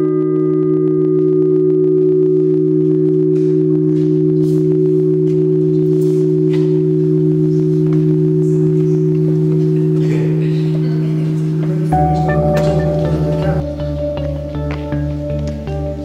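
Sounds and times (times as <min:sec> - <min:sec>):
large bell humming: 0:00.0 - 0:14.6.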